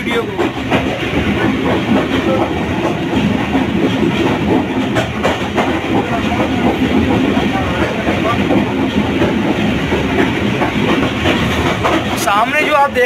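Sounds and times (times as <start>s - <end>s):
train rumble: 0.0s - 13.0s
wheels clacking over rail joints: 0.0s - 13.0s.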